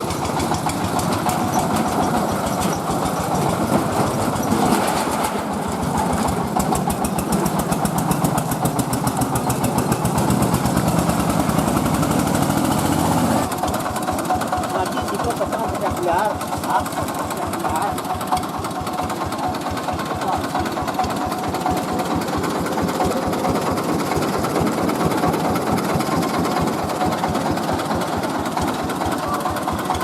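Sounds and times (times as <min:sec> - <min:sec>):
rice milling machine engine running: 0:00.0 - 0:30.0.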